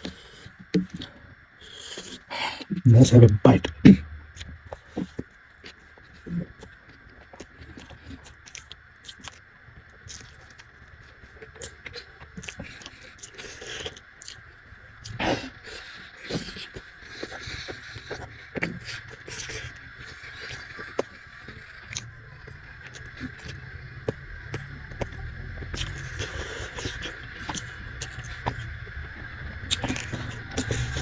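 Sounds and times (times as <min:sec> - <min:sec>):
chewing and slurping noodles: 0:00.0 - 0:02.8, 0:04.3 - 0:09.4, 0:10.0 - 0:14.4, 0:15.0 - 0:31.0.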